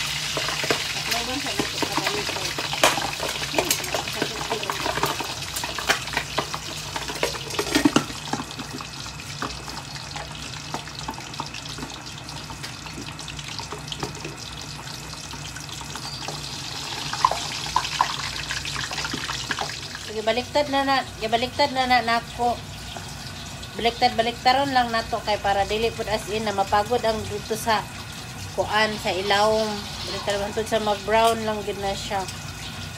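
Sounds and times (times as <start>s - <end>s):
meat frying in hot oil: 0.0s - 32.9s.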